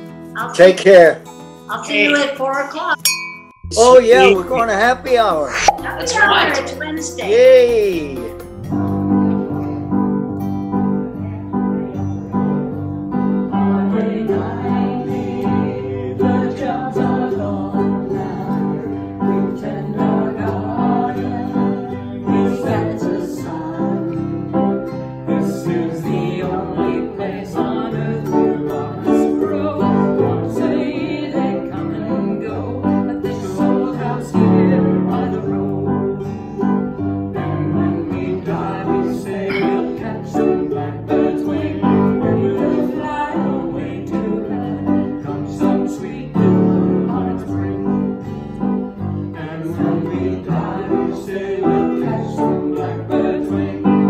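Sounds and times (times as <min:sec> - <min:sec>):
piano: 0:00.0 - 0:02.4, 0:03.0 - 0:54.0
acoustic guitars: 0:00.0 - 0:54.0
ukulele: 0:03.1 - 0:10.0, 0:12.2 - 0:54.0
voices singing: 0:03.7 - 0:08.3, 0:13.5 - 0:36.3, 0:37.3 - 0:54.0.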